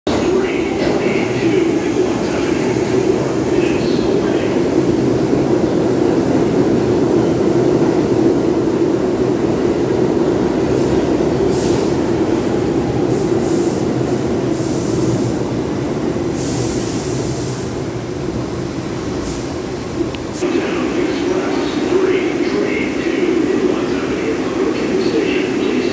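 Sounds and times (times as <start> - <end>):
subway train rumbling: 0.0 - 25.9.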